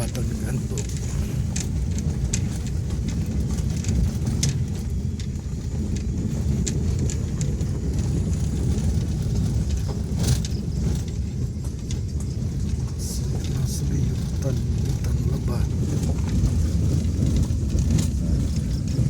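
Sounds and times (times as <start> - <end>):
car engine and road noise: 0.0 - 19.0
light clicks and rattles: 0.0 - 19.0.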